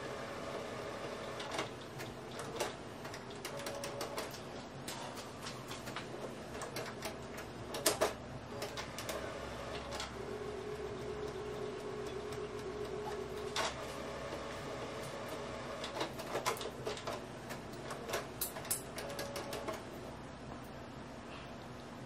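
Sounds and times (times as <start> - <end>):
printer mechanical hum: 0.0 - 21.0.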